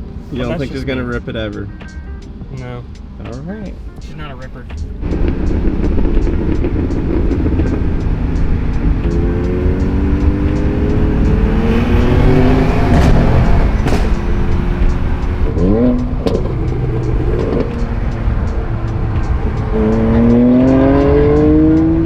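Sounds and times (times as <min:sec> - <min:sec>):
car engine accelerating: 0:00.0 - 0:01.1, 0:04.5 - 0:22.0
road noise: 0:00.0 - 0:22.0.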